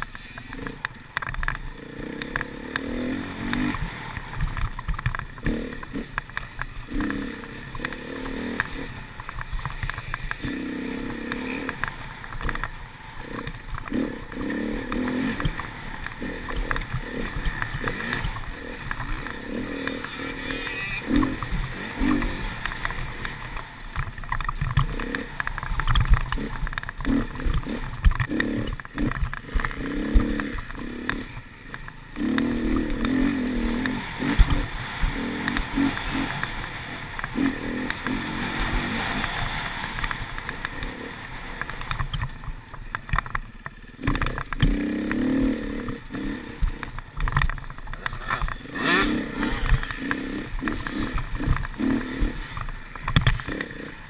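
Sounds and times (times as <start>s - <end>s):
dirt bike engine revving: 0.0s - 42.2s, 43.0s - 54.0s.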